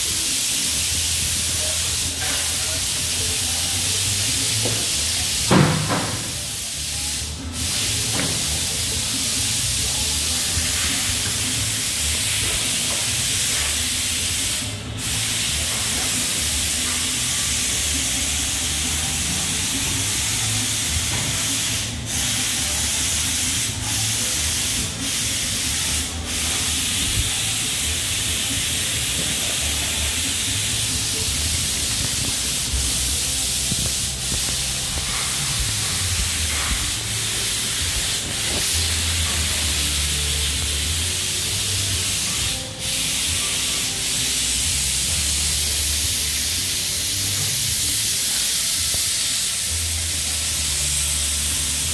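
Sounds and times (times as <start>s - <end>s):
factory floor hiss: 0.0s - 51.9s.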